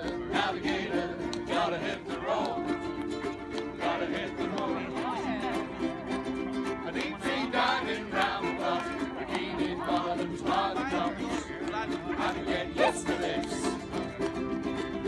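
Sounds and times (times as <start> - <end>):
group of voices singing: 0.0 - 15.0
ukuleles strumming: 0.0 - 15.0.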